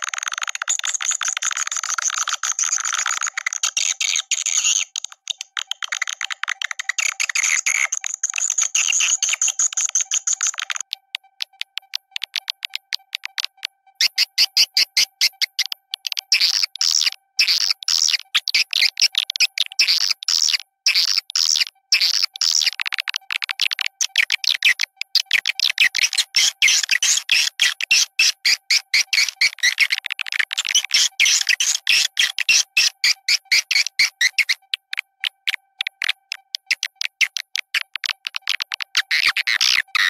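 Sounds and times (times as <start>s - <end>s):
swiftlets twittering chirps: 0.2s - 40.0s.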